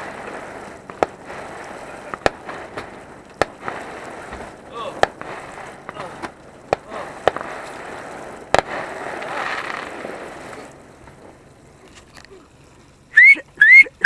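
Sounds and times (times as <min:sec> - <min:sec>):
firework bang: 0:00.0 - 0:11.7
firework crackling hiss: 0:00.0 - 0:14.0
whistling firework: 0:00.0 - 0:14.0.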